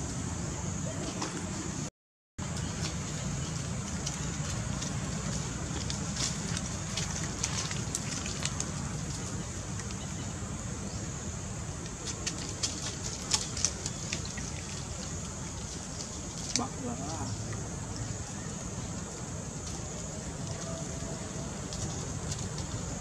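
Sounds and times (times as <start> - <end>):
dry leaves crackling and rustling: 2.4 - 10.8, 11.6 - 23.0.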